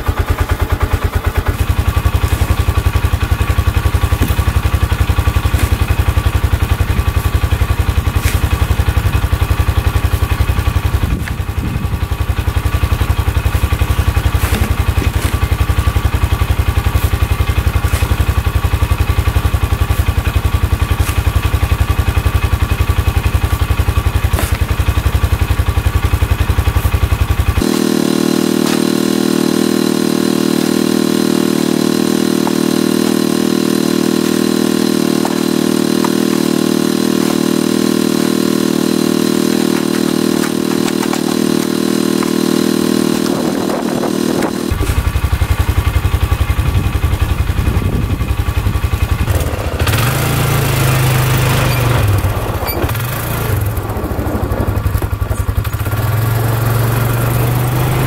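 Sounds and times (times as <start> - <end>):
engine idling with low throb: 0.0 - 58.0.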